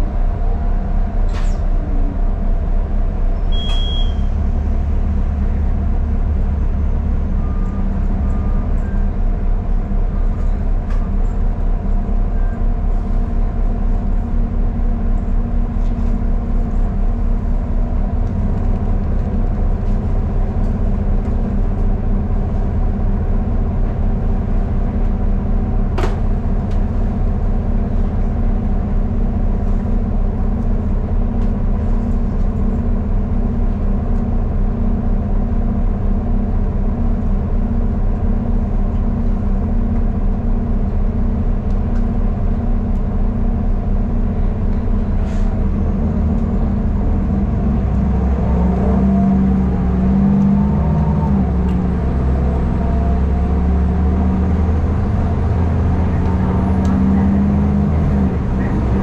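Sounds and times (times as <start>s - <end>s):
bus engine and road drone: 0.0s - 59.0s.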